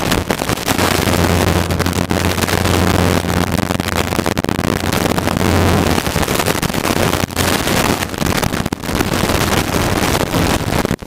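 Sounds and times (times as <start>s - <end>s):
helicopter rotor and engine rumble: 0.0s - 10.1s
wind noise: 0.0s - 11.0s.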